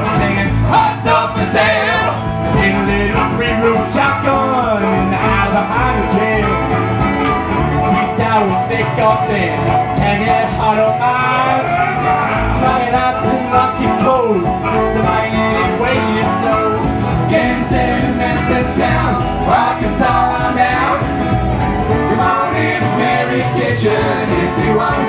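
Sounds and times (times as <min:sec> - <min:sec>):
acoustic guitar: 0:00.0 - 0:25.0
banjo: 0:00.0 - 0:25.0
upright bass: 0:00.0 - 0:25.0.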